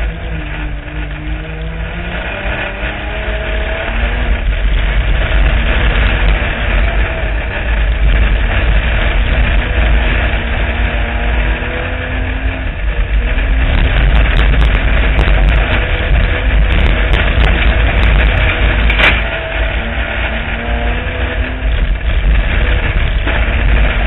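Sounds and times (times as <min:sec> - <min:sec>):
race car engine running hard: 0:00.0 - 0:24.0
wind and track noise: 0:00.0 - 0:24.0.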